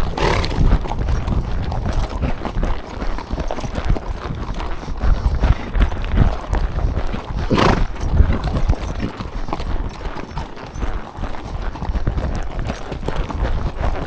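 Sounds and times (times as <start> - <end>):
horse hooves galloping on trail: 0.0 - 14.0.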